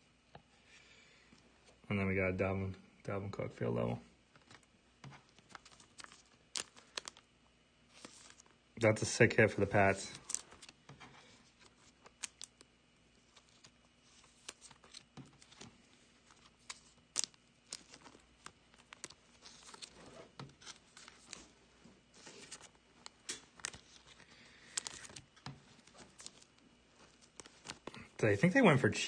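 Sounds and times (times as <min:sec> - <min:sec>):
plastic card sleeves crinkling: 0:04.3 - 0:29.0.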